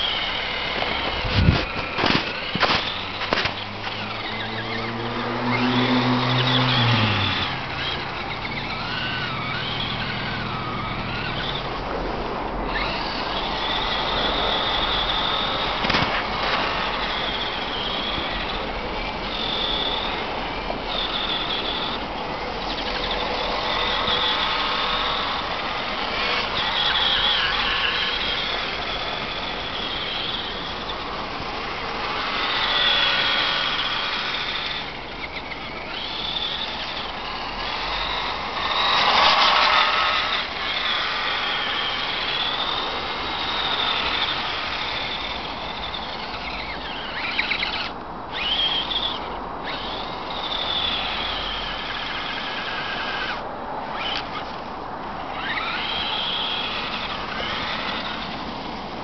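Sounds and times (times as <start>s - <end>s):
electric motor and gears whining: 0.0s - 59.0s.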